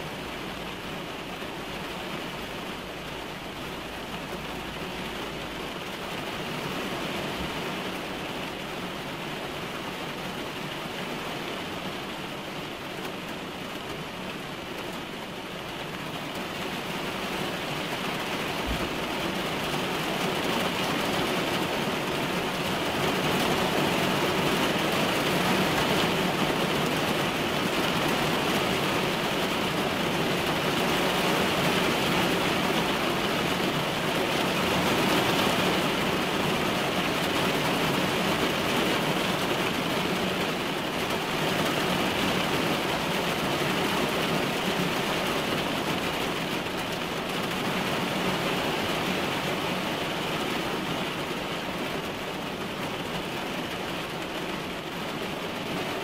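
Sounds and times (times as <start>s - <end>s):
rain on car windshield and roof: 0.0s - 56.0s.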